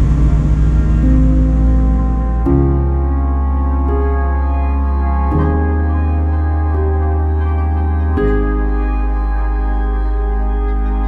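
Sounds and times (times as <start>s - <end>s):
deep held bass note: 0.0s - 11.0s
slow synth chords: 0.0s - 11.0s.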